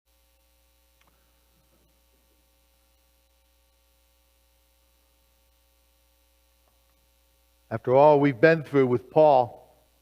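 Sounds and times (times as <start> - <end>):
faint electrical hum: 0.1 - 10.0.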